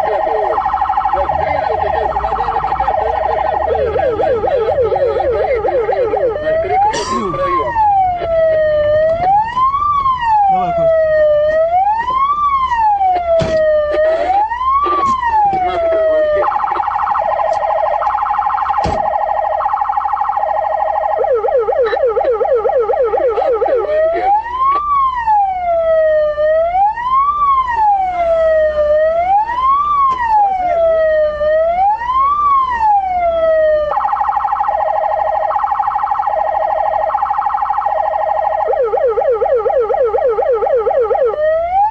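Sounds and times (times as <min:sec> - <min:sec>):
police siren: 0:00.0 - 0:41.9.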